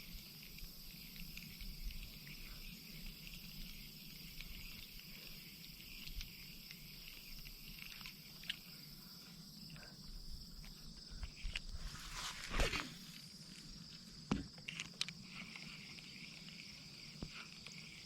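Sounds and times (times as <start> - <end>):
faint insect chorus: 0.0 - 18.0.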